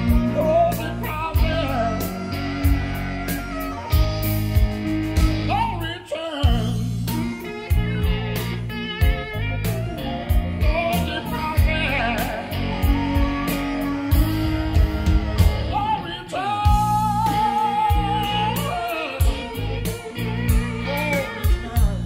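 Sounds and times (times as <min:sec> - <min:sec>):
blues-rock song over speakers: 0:00.0 - 0:22.0.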